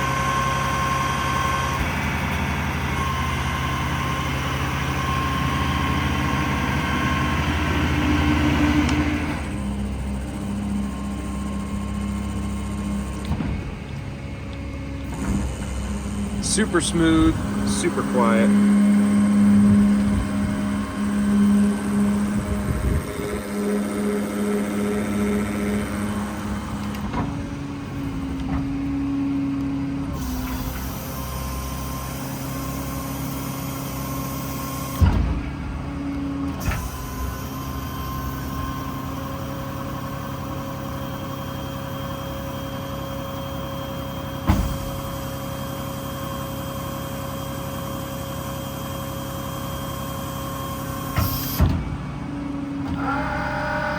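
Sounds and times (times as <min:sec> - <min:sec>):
crane hydraulic hum: 0:00.0 - 0:53.9
diesel engine running: 0:00.0 - 0:53.9.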